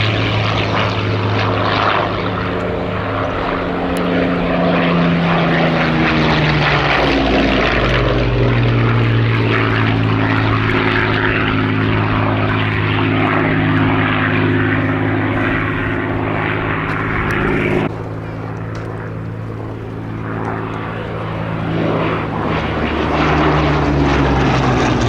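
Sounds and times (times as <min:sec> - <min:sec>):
propeller plane engine flying past: 0:00.0 - 0:25.0.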